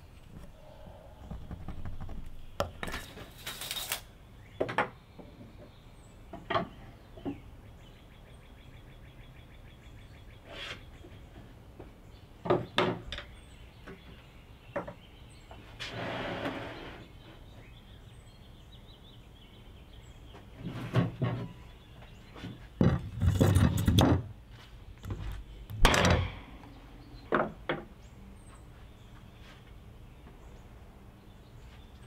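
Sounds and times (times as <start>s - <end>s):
faint birdsong: 0.0s - 32.0s.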